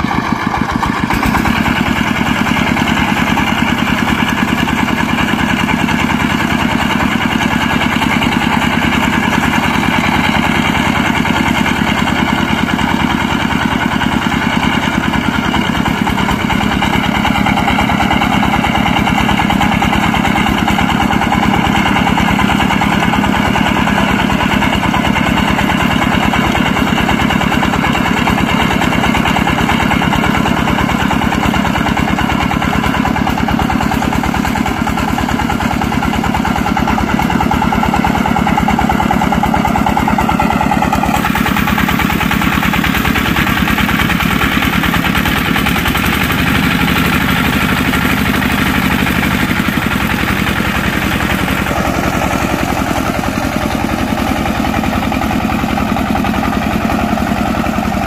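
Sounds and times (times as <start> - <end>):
diesel tractor engine chugging: 0.0 - 58.0.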